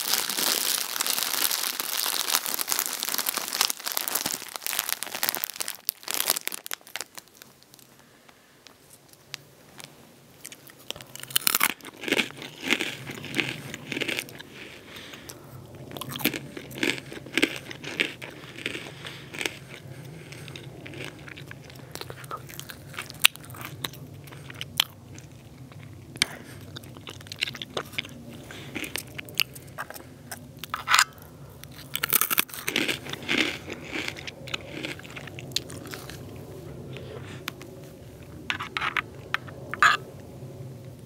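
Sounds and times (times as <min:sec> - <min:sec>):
pretzels being crunched: 0:00.0 - 0:40.0.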